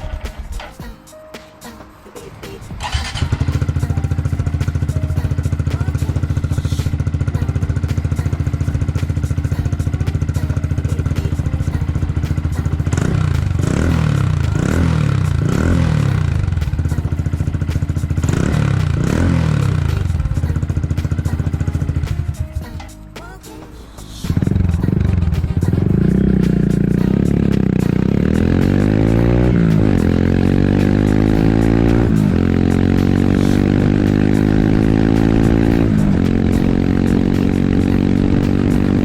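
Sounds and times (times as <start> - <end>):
motorcycle engine idling: 2.6 - 23.4, 24.0 - 39.0.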